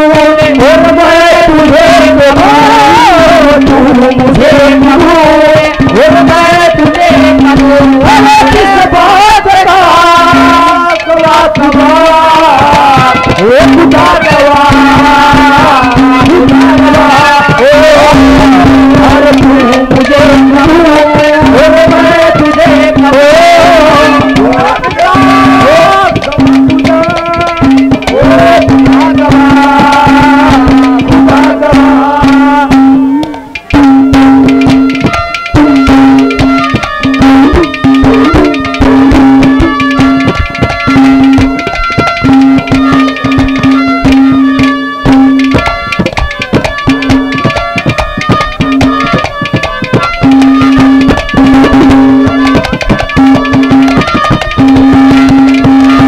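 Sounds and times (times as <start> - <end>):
hand drum rhythm: 0.0 - 56.0
wavering folk melody: 0.0 - 56.0.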